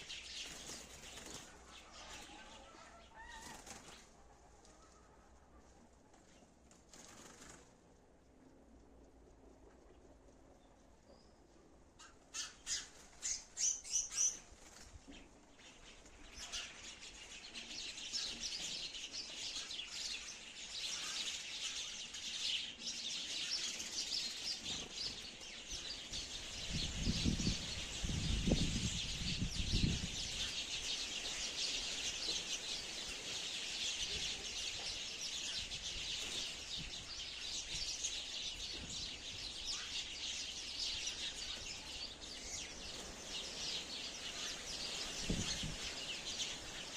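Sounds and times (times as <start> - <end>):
sparrows chirping: 0.0 - 4.1, 10.0 - 46.9.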